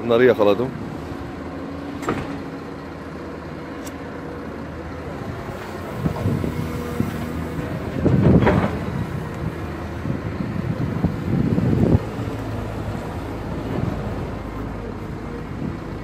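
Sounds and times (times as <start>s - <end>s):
excavator diesel engine working: 0.0s - 16.0s.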